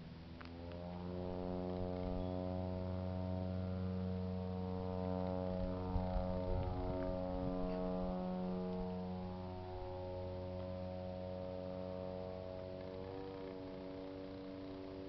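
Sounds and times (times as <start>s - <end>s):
aircraft droning overhead: 0.0s - 15.0s.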